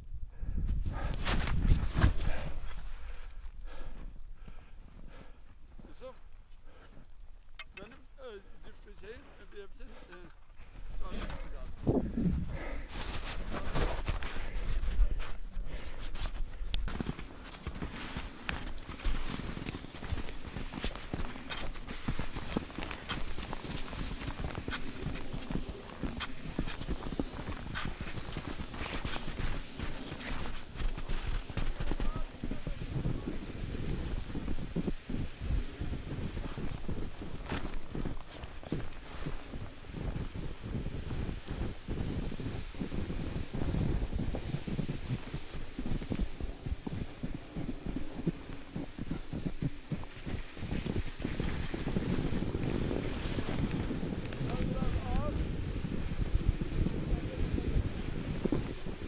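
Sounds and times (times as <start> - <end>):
wind rumble on microphone: 0.0 - 4.5, 10.7 - 59.0
footsteps crunching on snow: 0.9 - 59.0.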